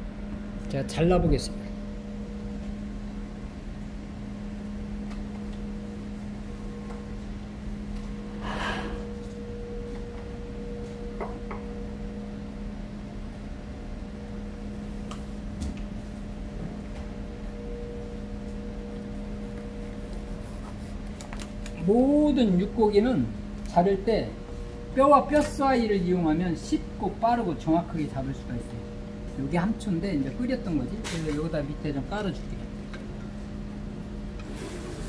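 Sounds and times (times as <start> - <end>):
kitchen equipment hum: 0.0 - 35.0.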